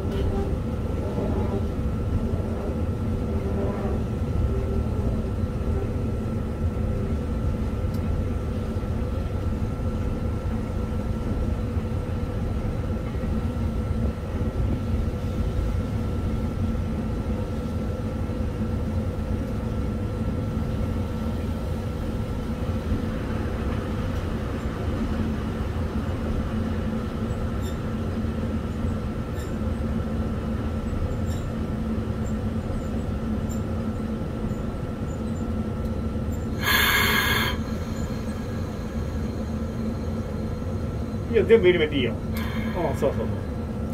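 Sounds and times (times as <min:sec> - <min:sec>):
locomotive running gear rumble: 0:00.0 - 0:43.9
steady multi-tone hum: 0:00.0 - 0:43.9.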